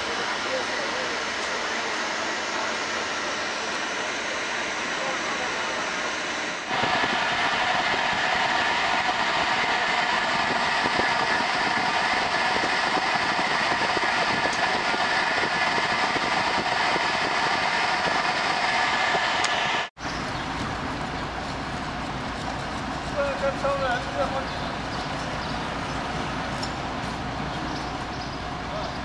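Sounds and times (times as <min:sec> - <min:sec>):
train rushing and rumbling: 0:00.0 - 0:29.0.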